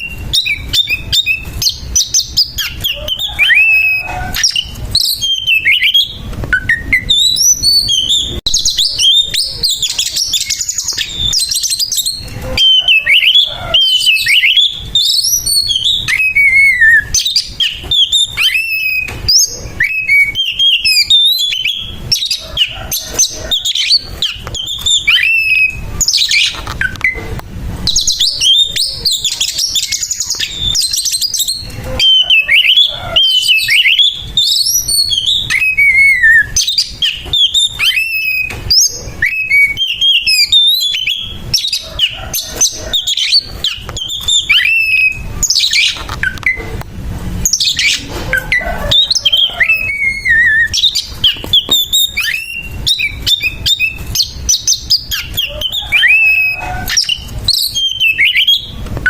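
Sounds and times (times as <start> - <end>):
bird singing whistles and trills: 0.0 - 46.7, 47.4 - 58.8.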